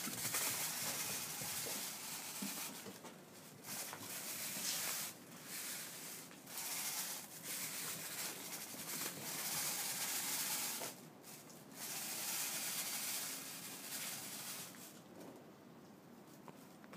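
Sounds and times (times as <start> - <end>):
broom scraping paving stones: 0.0 - 15.0.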